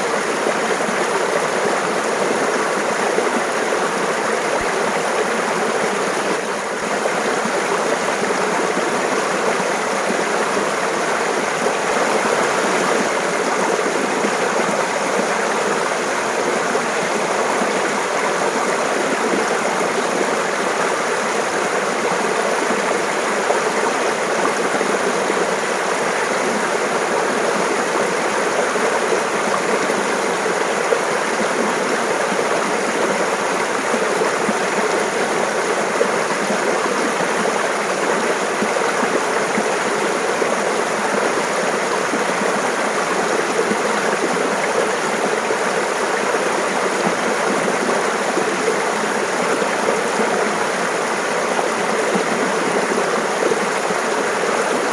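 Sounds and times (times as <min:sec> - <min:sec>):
stream babbling over rocks: 0:00.0 - 0:54.9.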